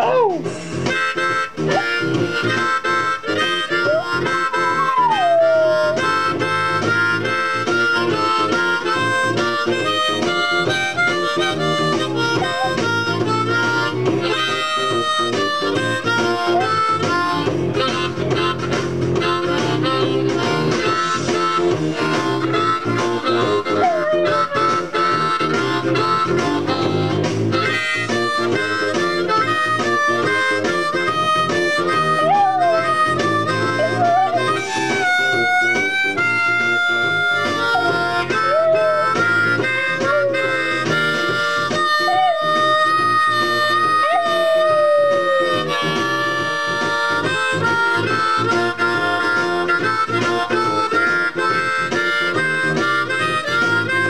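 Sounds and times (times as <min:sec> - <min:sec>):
blues backing track with guitar: 0:00.0 - 0:54.0
harmonica bent blues notes: 0:00.0 - 0:54.0.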